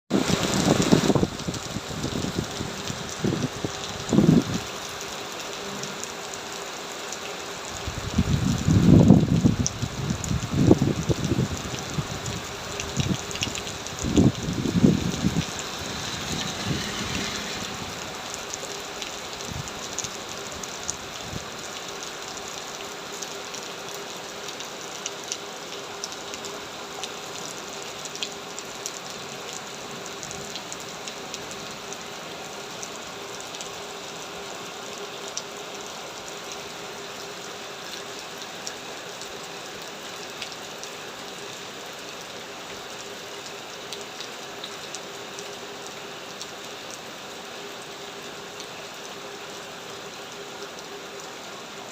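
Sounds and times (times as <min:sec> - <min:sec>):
heavy rain on a hard surface: 0:00.1 - 0:51.9.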